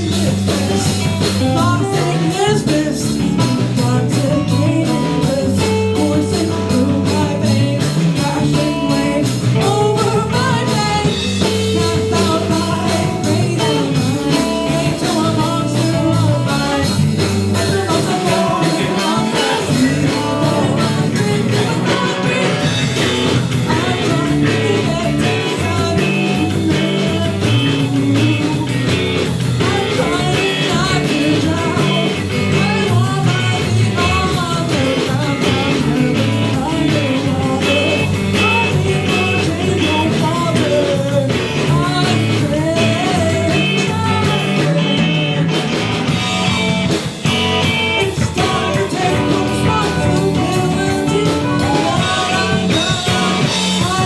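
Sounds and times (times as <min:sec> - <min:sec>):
bass line: 0:00.0 - 0:54.0
drum beat: 0:00.0 - 0:54.0
electric guitar: 0:00.0 - 0:54.0.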